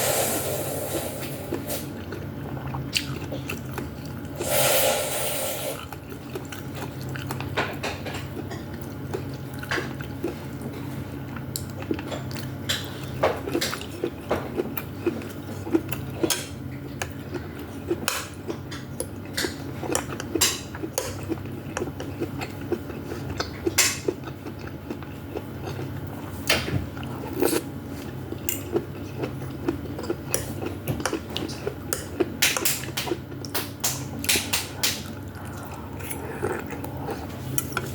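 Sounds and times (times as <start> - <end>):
steady low hum: 0.0 - 37.9
chewing: 1.5 - 4.4, 5.8 - 37.9.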